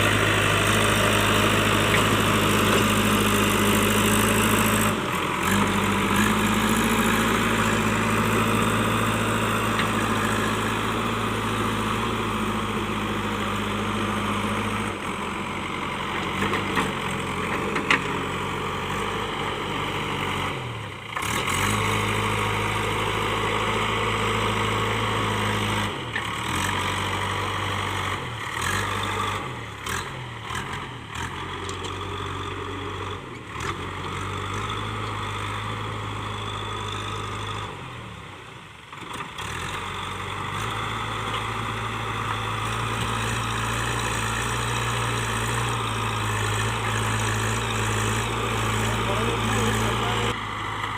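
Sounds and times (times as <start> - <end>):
diesel engine running under work: 0.0 - 50.9.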